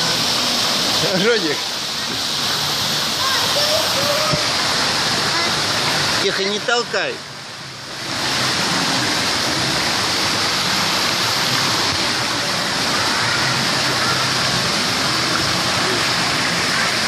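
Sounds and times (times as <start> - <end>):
water fountain splashing: 0.0 - 17.0.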